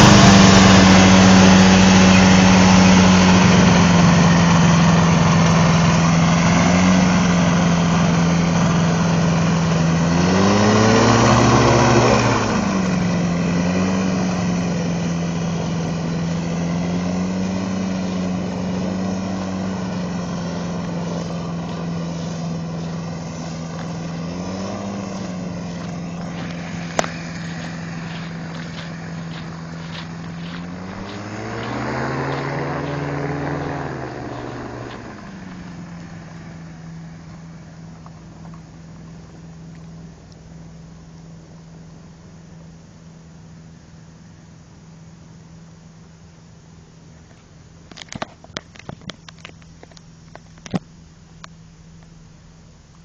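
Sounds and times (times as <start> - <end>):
microlight aircraft engine: 0.0 - 53.0.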